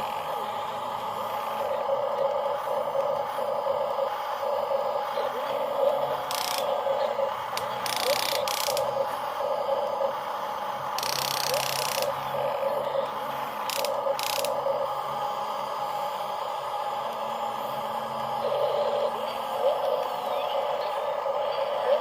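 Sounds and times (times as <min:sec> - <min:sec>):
electric gear motors whirring: 0:00.0 - 0:22.0.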